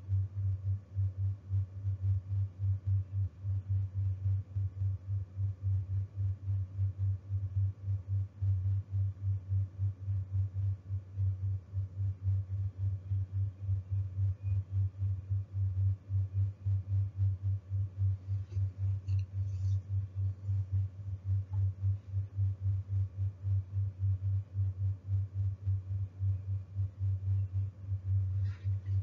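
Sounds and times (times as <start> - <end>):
low pulsing hum: 0.0 - 29.0.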